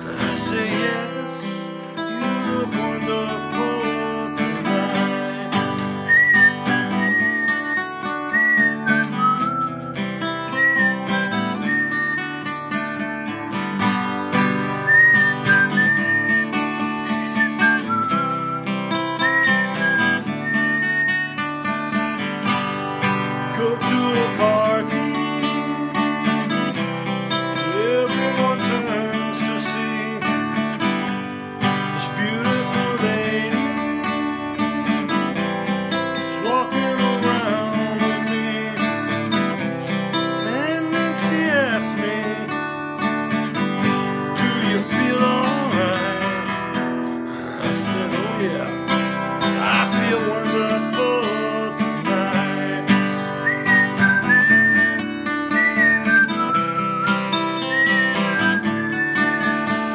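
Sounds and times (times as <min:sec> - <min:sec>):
acoustic guitar strummed and picked: 0:00.0 - 0:59.9
man whistling melody: 0:00.1 - 0:59.9.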